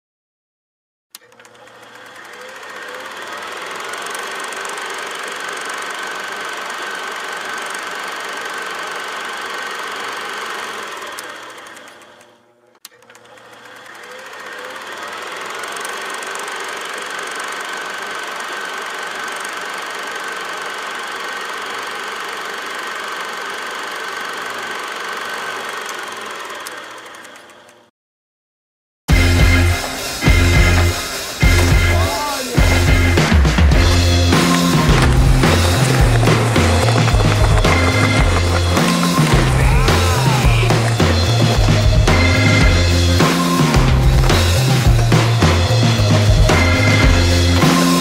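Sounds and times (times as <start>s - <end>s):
rapid mechanical clatter: 1.2s - 12.3s, 13.0s - 27.8s, 29.8s - 48.0s.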